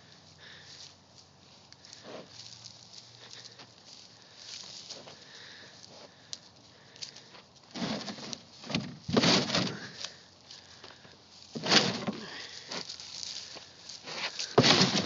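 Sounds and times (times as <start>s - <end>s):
bull rubbing head in dry grass: 0.7s - 6.2s, 7.0s - 15.0s.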